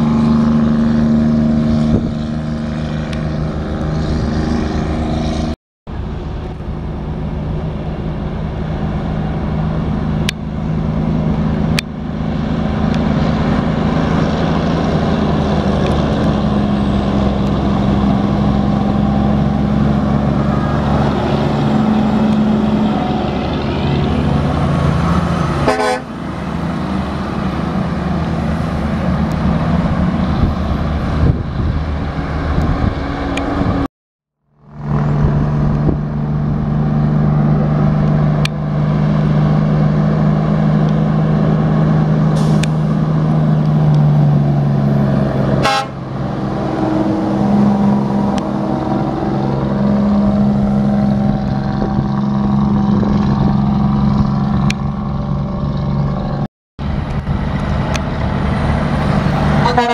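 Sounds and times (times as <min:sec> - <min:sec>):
truck diesel engines droning: 0:00.0 - 0:59.9.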